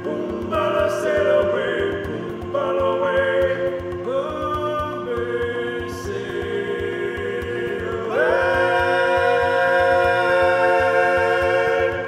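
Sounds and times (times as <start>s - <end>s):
choral voices singing chords: 0.0s - 12.0s
low drum beat: 0.0s - 12.0s.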